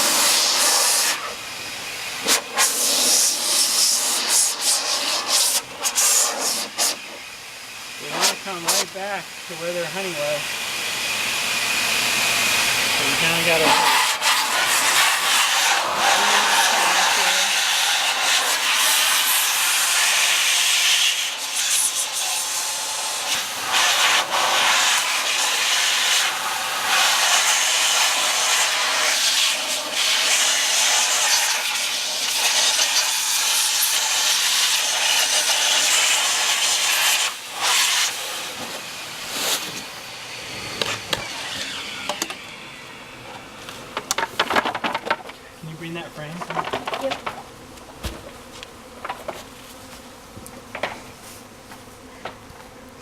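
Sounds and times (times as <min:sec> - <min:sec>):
air blower rushing hiss: 0:00.0 - 0:44.0.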